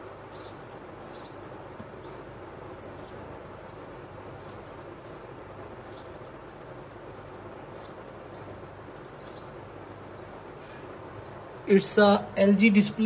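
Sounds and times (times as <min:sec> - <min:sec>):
room noise with low hum: 0:00.0 - 0:13.0.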